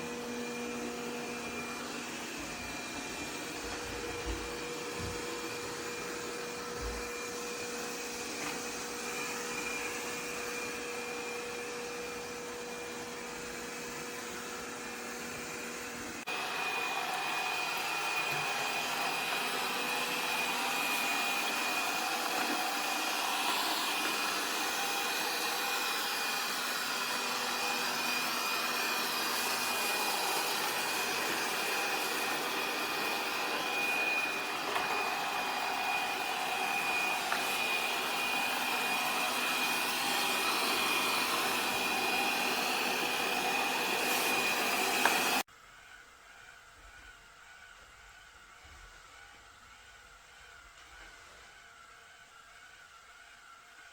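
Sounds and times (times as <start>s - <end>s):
robot vacuum whirring: 0.0s - 53.9s.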